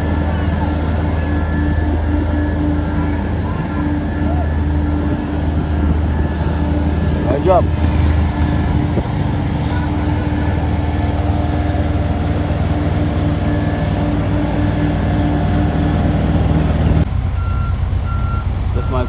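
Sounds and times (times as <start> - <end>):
diesel engine running steadily: 0.0 - 19.0.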